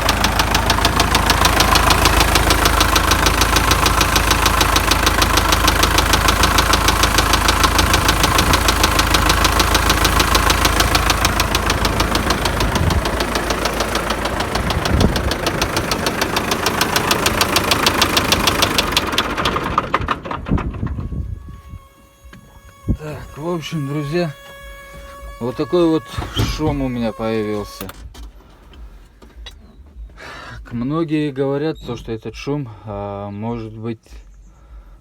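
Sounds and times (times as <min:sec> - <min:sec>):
diesel tractor engine knocking: 0:00.0 - 0:32.5.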